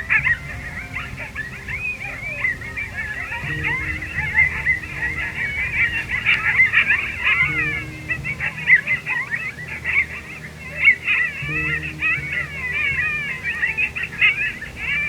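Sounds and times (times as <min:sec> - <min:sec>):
coyotes yipping and howling: 0:00.0 - 0:15.0.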